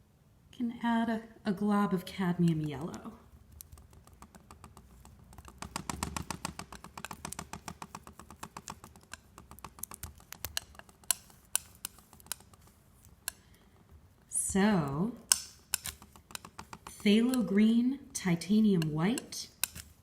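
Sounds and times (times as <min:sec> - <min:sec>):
palette knife clicking and scraping: 0:02.4 - 0:14.0, 0:14.8 - 0:20.0.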